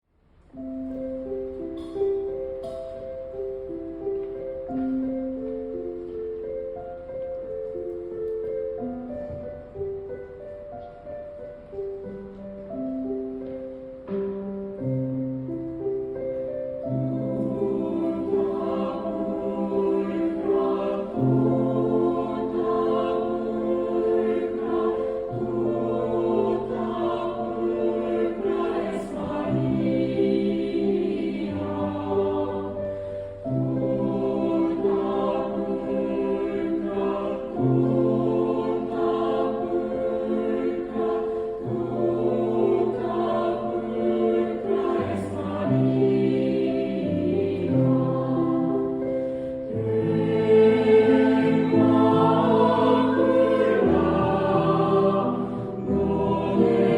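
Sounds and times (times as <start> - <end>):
choir singing in harmony: 0.5 - 56.9.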